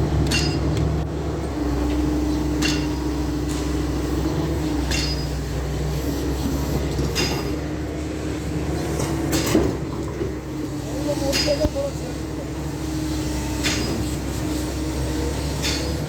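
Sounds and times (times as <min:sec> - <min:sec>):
excavator diesel engine whining: 0:00.0 - 0:16.0.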